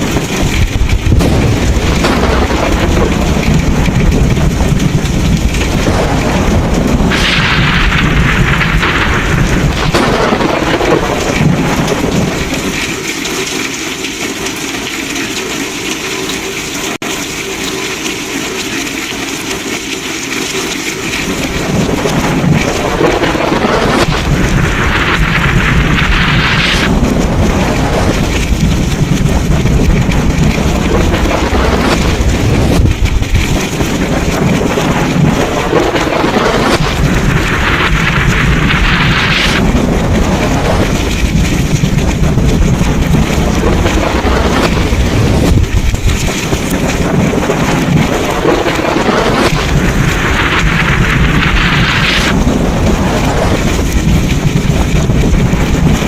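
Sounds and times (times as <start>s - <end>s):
low rumble of thunder: 0.0s - 13.6s, 21.0s - 56.0s
heavy rain: 0.0s - 56.0s.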